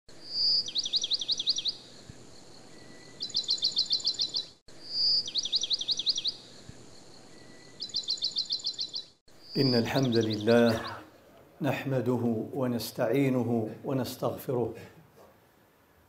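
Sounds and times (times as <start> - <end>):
songbird singing: 0.1 - 13.4.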